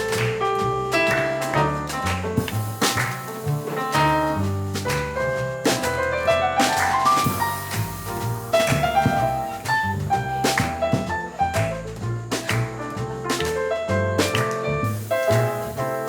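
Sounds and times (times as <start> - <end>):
drum kit with cymbals: 0.0 - 16.0
jazz piano: 0.0 - 16.0
walking double bass: 0.0 - 16.0.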